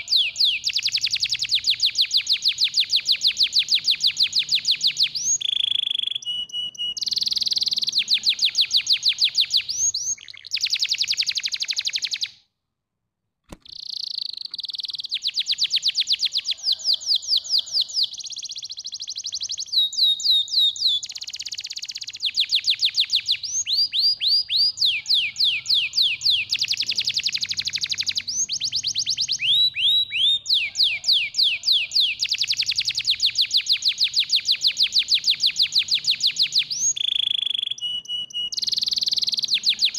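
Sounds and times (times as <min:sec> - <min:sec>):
canary singing trills: 0:00.0 - 0:12.4, 0:13.6 - 0:39.9.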